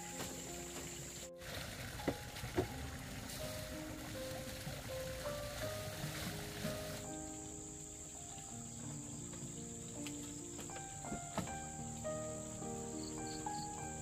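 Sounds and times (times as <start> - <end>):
insects chirring: 0.0 - 14.0
soft background music: 0.0 - 14.0.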